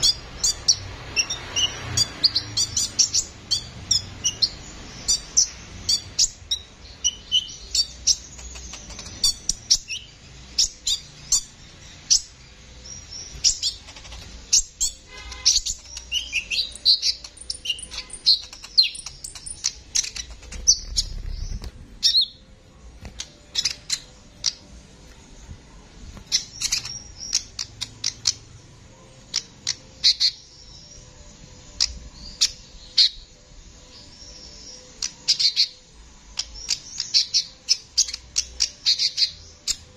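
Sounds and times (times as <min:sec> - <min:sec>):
sunbird singing: 0:00.0 - 0:22.5, 0:23.2 - 0:25.2, 0:26.2 - 0:39.9.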